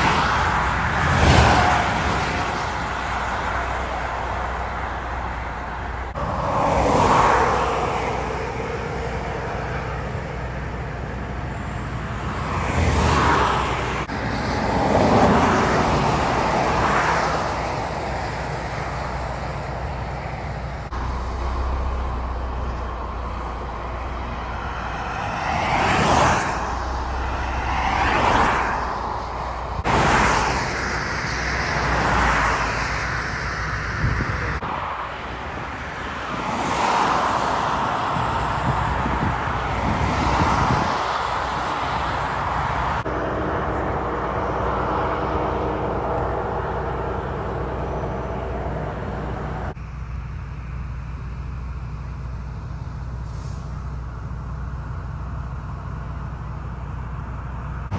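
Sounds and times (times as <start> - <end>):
road rumble: 0.0 - 57.9
vehicles passing: 0.0 - 57.9.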